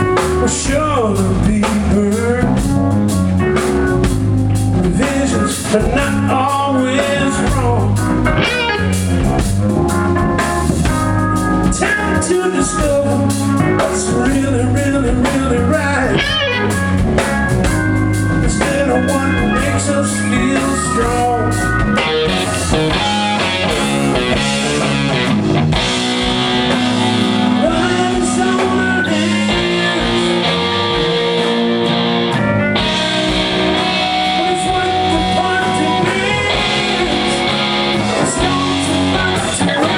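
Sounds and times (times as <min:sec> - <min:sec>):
bass and drums: 0:00.0 - 0:39.9
electric guitar lead: 0:00.0 - 0:39.9.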